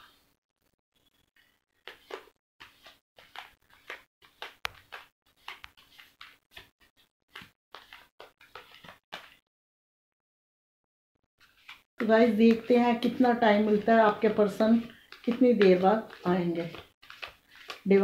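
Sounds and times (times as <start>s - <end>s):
cards being shuffled: 1.4s - 9.4s, 11.4s - 18.0s.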